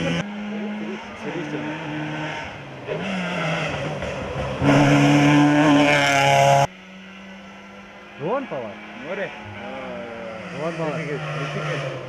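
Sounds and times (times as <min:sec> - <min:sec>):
rally car engines running hard: 0:00.0 - 0:12.0.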